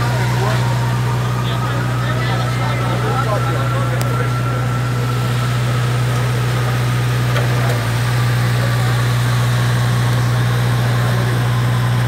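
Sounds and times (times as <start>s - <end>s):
engine running with high whine: 0.0s - 12.0s.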